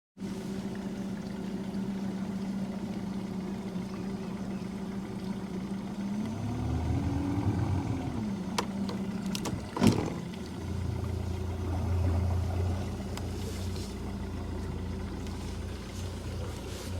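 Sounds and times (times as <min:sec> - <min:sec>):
boat motor humming: 0:00.2 - 0:16.9
deep rumble: 0:03.0 - 0:16.9.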